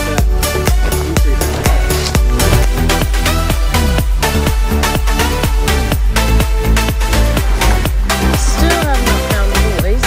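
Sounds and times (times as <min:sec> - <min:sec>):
electronic dance music: 0:00.6 - 0:10.0.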